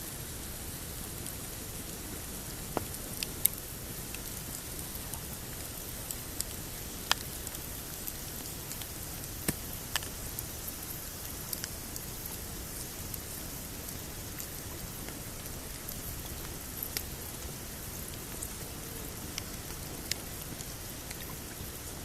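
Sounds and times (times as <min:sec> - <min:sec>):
steady rushing hiss: 0:00.0 - 0:22.0
campfire crackling and popping: 0:00.4 - 0:22.0.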